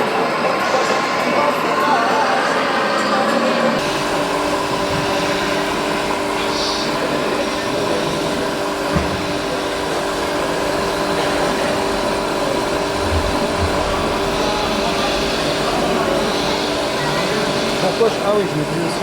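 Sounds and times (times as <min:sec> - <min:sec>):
electric motors and pumps whining: 0:00.0 - 0:19.0.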